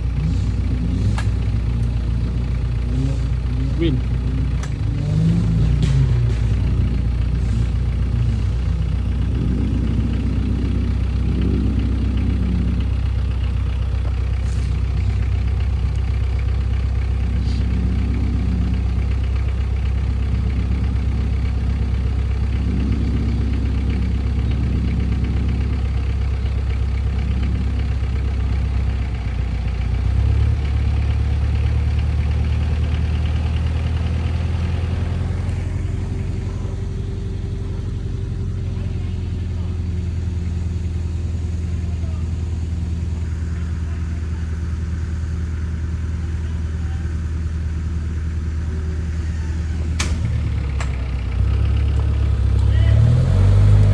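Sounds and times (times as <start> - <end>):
vehicle engine droning: 0.0 - 53.9.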